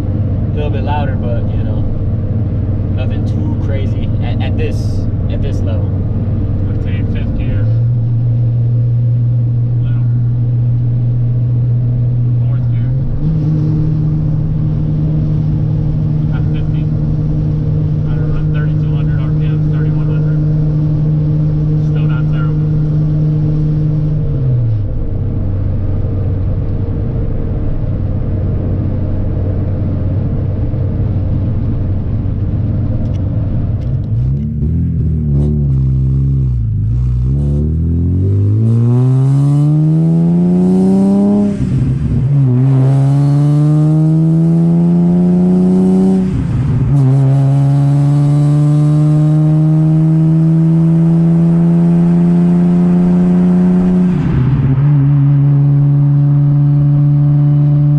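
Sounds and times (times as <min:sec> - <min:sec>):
car exhaust accelerating: 0:00.0 - 0:57.9.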